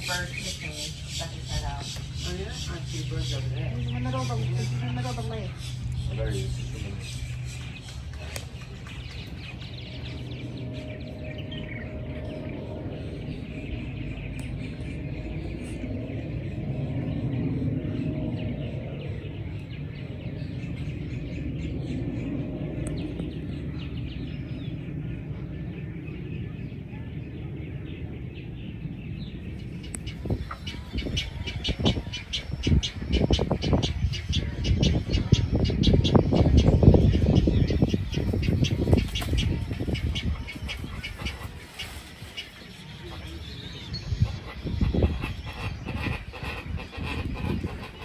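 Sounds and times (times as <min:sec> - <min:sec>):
birds chirping and calling: 0:00.0 - 0:48.0
steady low rumble: 0:00.0 - 0:48.0.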